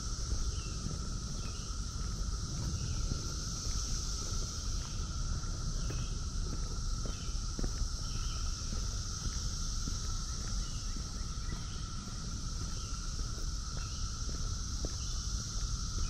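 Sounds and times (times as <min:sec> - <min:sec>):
cicadas droning: 0:00.0 - 0:16.0
low uneven rumble: 0:00.0 - 0:16.0.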